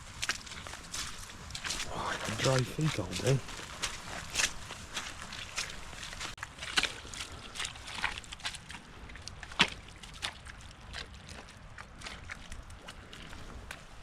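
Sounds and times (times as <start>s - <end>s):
footsteps squelching in mud: 0.0s - 14.0s.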